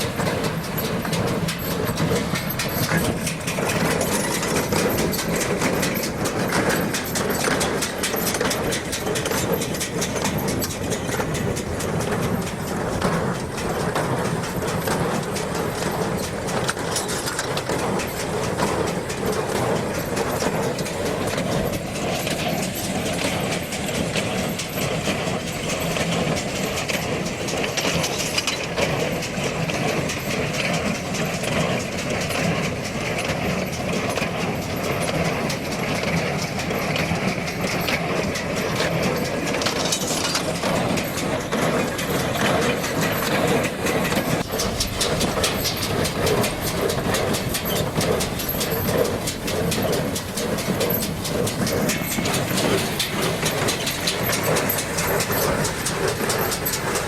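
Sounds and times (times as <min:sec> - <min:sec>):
baler mechanical clatter: 0:00.0 - 0:57.0
tractor diesel engine running: 0:00.0 - 0:57.0.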